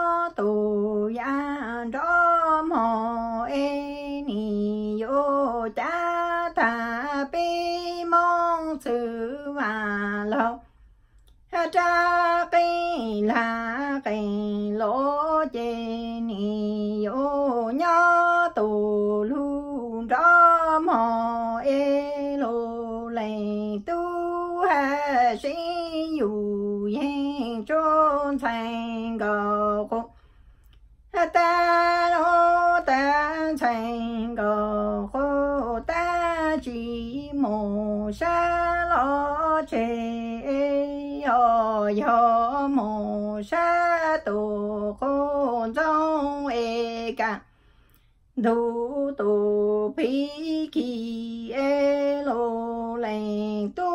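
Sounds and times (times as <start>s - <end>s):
woman singing unaccompanied: 0.0s - 10.7s, 11.3s - 30.2s, 31.0s - 47.5s, 48.3s - 53.9s.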